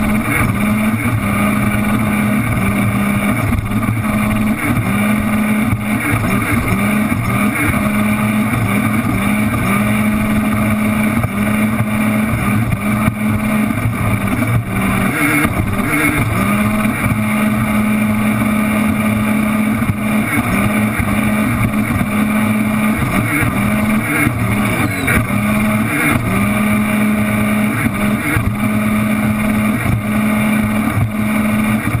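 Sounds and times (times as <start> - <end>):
personal watercraft engine: 0.0 - 32.0.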